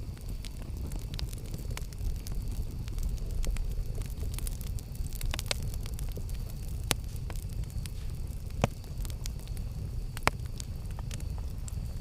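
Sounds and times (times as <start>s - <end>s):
campfire rumble: 0.0s - 12.0s
wood crackling and popping: 0.0s - 12.0s.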